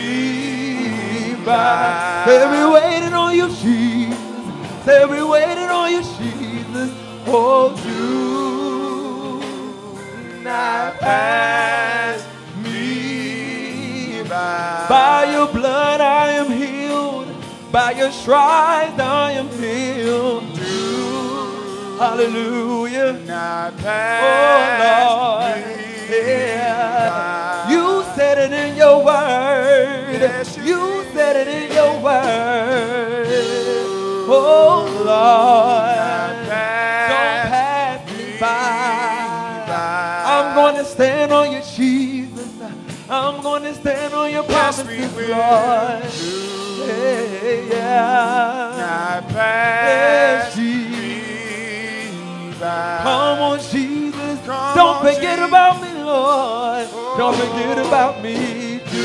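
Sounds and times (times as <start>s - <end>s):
gospel singing with vibrato: 0.0s - 59.0s.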